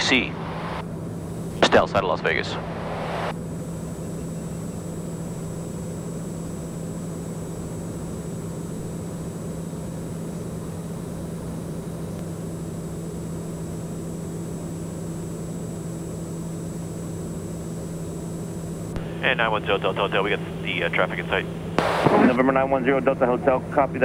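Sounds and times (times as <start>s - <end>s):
turboprop engine drone: 0.0s - 24.0s.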